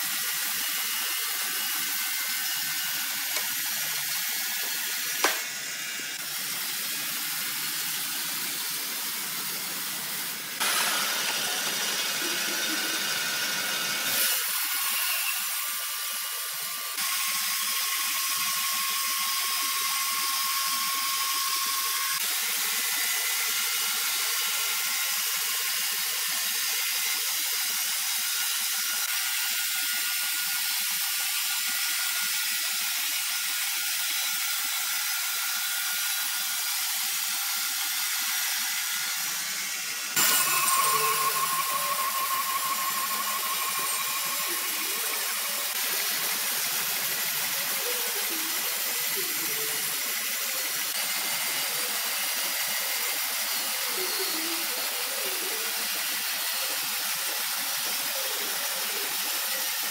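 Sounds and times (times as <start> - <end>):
band saw cutting timber: 0.0 - 59.9.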